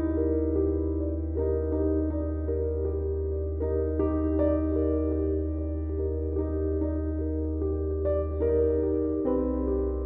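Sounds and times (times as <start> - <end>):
soft piano notes: 0.0 - 10.0.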